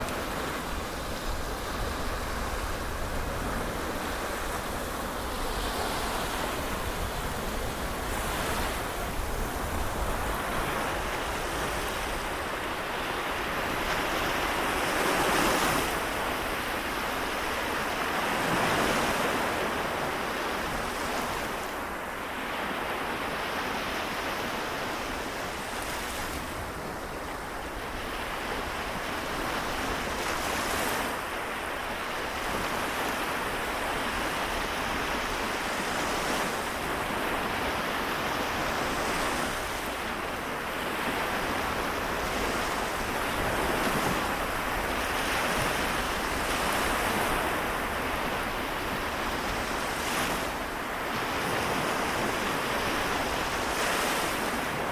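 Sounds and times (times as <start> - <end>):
small waves lapping on shore: 0.0 - 54.9
wind rumble on microphone: 0.0 - 54.9.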